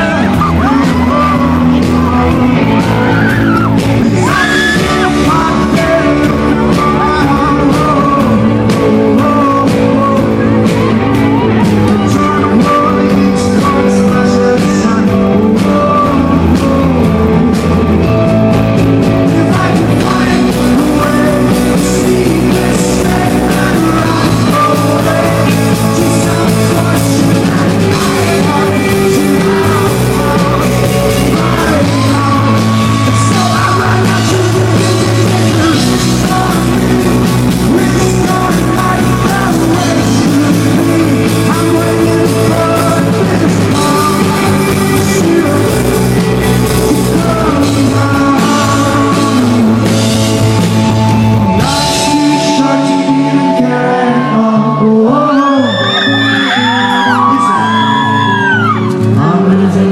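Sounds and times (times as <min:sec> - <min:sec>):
person singing: 0:00.0 - 0:59.9
rock band playing live: 0:00.0 - 0:59.9.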